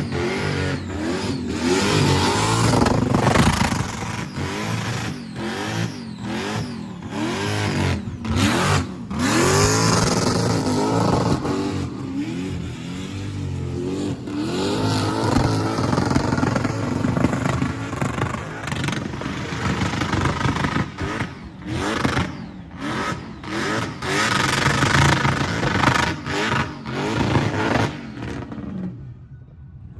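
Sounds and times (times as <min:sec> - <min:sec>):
car engine revving: 0:00.0 - 0:29.0
exhaust backfire shots: 0:00.0 - 0:29.0.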